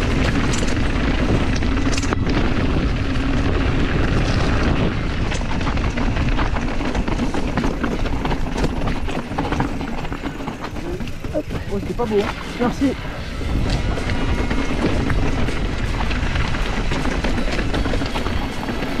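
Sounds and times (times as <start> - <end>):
bike rattling: 0.0 - 19.0
wind buffeting microphone: 0.0 - 19.0.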